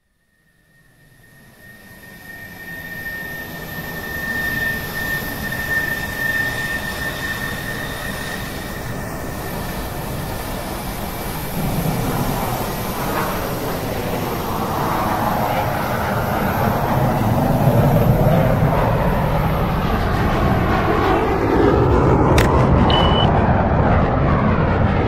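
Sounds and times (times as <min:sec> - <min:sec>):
jet airliner rushing with whine: 0:00.2 - 0:25.0.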